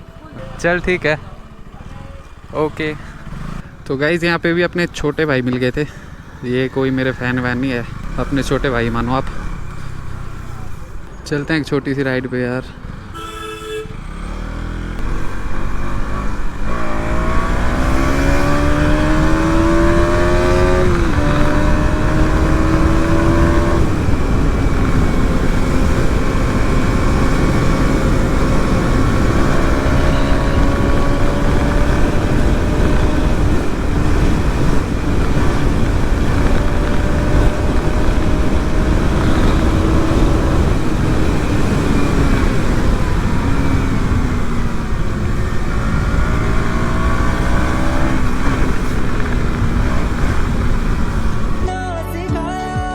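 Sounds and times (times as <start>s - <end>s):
motorcycle engine revving: 0.0s - 51.7s.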